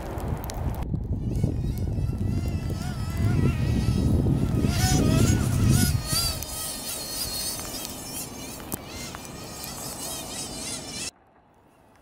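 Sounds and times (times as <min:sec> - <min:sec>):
electric motor whining: 0:01.2 - 0:11.1.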